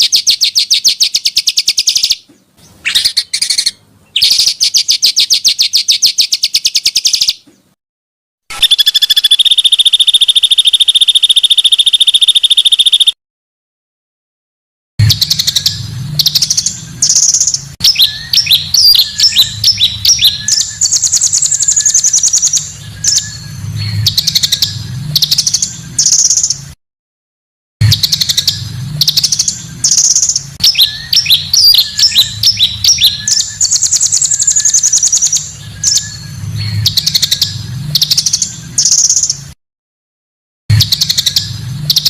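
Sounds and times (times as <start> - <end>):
songbirds trilling and chirping: 0.0 - 7.8, 8.5 - 13.2, 15.0 - 26.8, 27.8 - 39.6, 40.7 - 42.0.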